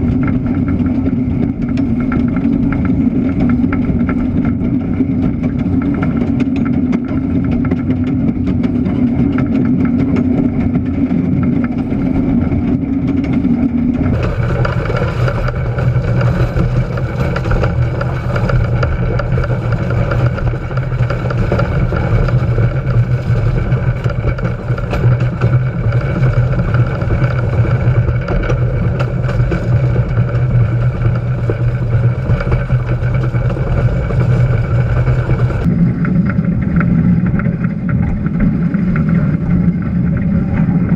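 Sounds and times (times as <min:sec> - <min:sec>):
locomotive wheels rumbling on rails: 0:00.0 - 0:40.9.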